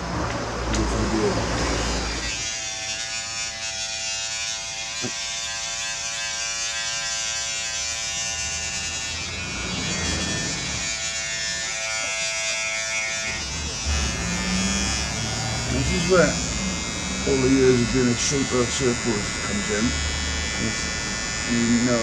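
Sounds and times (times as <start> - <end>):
electric hair clippers buzzing: 0.7 - 22.0.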